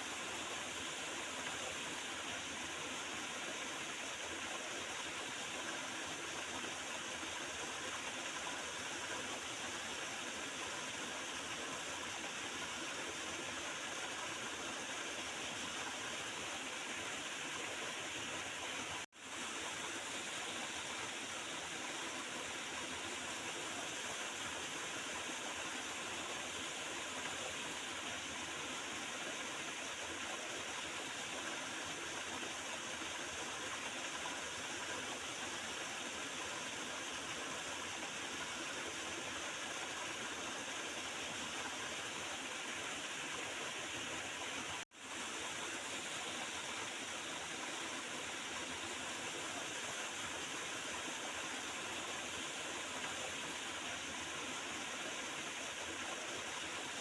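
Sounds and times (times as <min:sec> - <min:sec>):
river water gurgling: 0:00.0 - 0:57.0.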